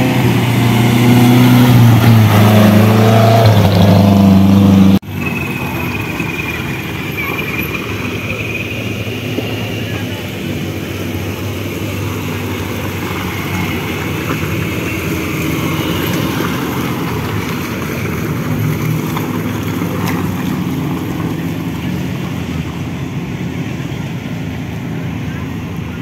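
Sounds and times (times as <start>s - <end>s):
buggy engines passing: 0.0s - 26.0s.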